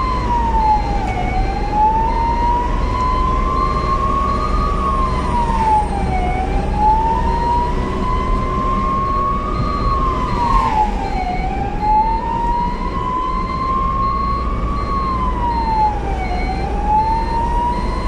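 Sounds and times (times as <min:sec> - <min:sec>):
ambulance siren wailing: 0:00.0 - 0:18.0
engine and road rumble: 0:00.0 - 0:18.0.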